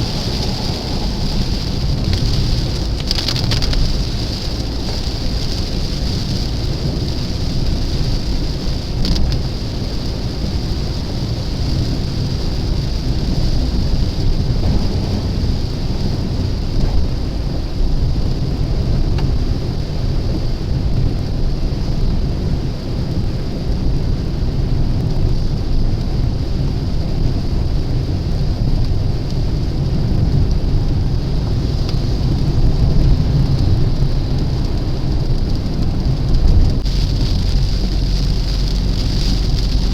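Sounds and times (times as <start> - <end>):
deep rumble of moving car: 0.0 - 39.9
rain falling on a car: 0.0 - 39.9.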